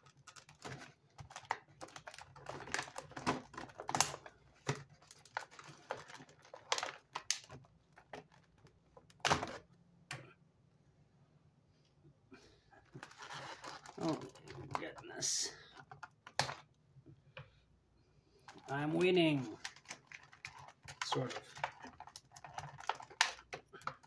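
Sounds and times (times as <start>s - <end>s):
plastic packaging rustling and clicking: 0.0s - 9.8s, 12.8s - 16.8s, 18.4s - 24.0s.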